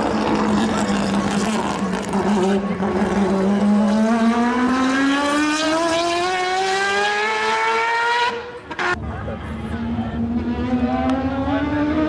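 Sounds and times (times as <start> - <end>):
race car engine accelerating: 0.0 - 9.0, 9.6 - 12.0.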